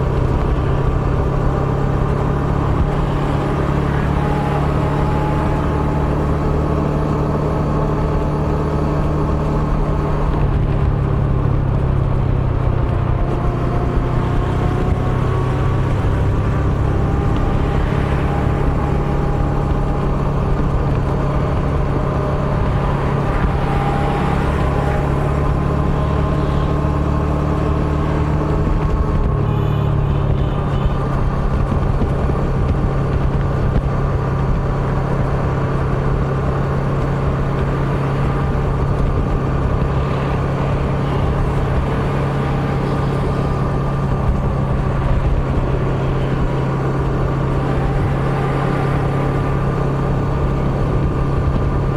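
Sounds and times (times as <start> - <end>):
motorbike engine running: 0.0 - 51.9
road and wind rumble: 0.0 - 51.9.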